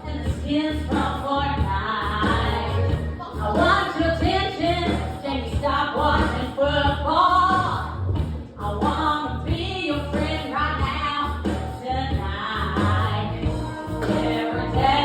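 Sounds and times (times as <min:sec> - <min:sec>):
pop song with singing: 0:00.0 - 0:15.0
steady bass beat: 0:00.0 - 0:15.0.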